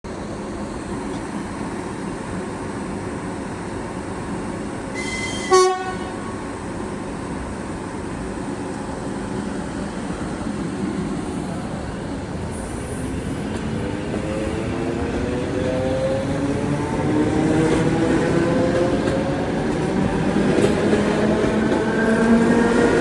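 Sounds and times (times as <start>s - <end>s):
train rumbling: 0.2s - 23.0s.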